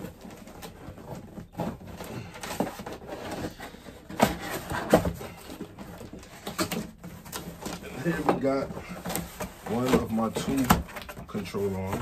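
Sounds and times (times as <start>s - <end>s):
cardboard box being opened: 0.0s - 12.0s
cardboard rustling and scraping: 0.0s - 12.0s.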